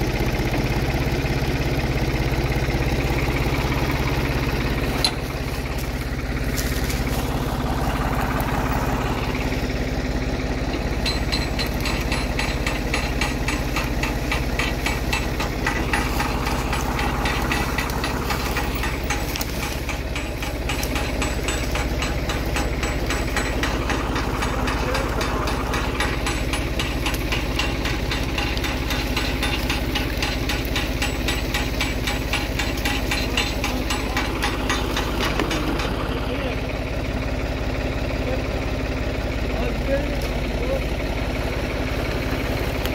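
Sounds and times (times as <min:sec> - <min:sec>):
tractor diesel engine knocking: 0:00.0 - 0:42.9.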